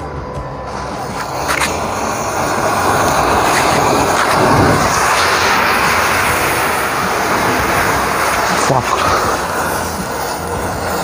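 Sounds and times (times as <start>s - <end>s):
matches flaring rushing fire: 0.5s - 11.0s.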